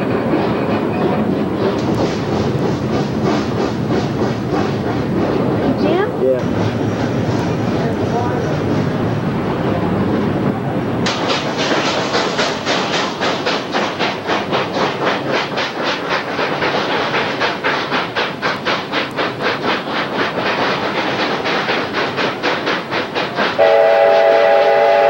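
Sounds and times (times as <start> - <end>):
rumbling train noise: 0.0 - 25.0
steam locomotive chuffing: 0.0 - 25.0.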